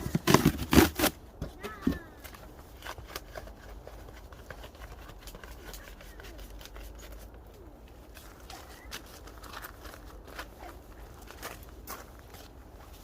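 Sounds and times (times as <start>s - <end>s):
rustling handling noises: 0.0s - 13.0s.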